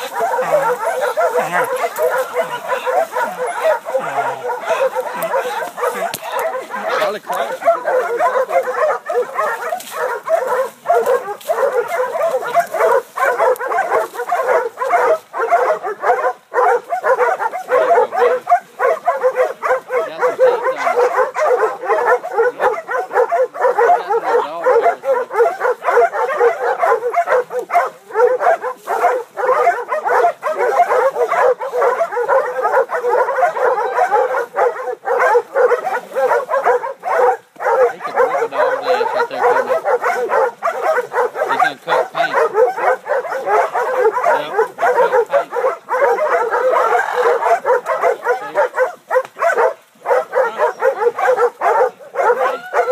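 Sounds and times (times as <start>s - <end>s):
dogs barking and yelping: 0.0s - 52.9s.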